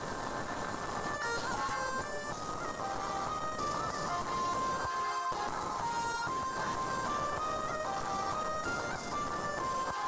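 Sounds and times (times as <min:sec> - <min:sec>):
light background melody: 0:00.0 - 0:10.0.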